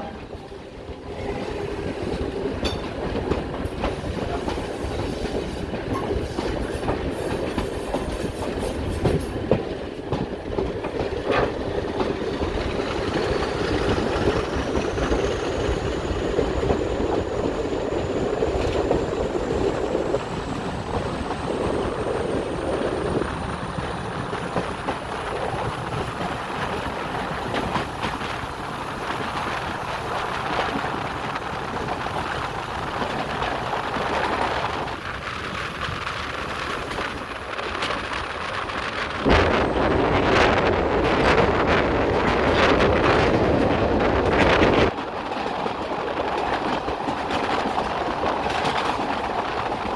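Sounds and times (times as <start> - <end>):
diesel train rumbling on rails: 0.0 - 49.9.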